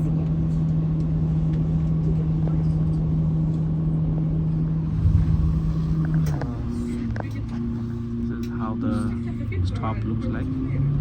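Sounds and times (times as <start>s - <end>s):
boat engine droning: 0.1s - 11.0s.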